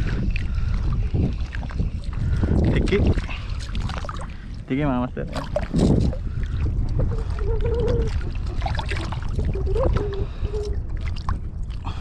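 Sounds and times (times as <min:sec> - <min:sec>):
water sounds: 0:00.0 - 0:12.0.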